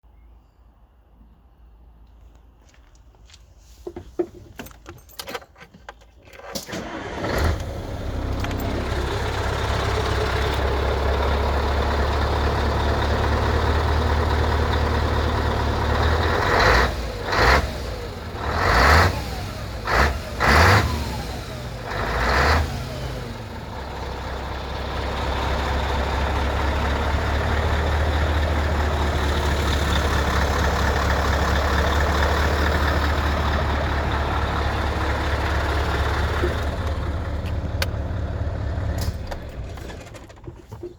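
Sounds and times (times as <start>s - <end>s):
diesel truck engine idling: 6.7s - 40.6s.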